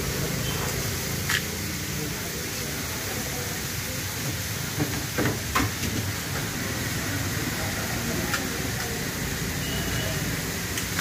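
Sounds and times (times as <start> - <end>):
noodles frying in a wok: 0.0 - 11.0.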